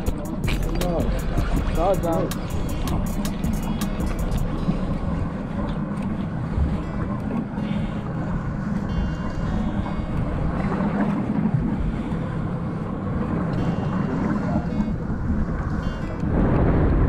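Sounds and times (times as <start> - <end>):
low boat hum: 0.0 - 17.0
wind rumbling on microphone: 0.0 - 17.0.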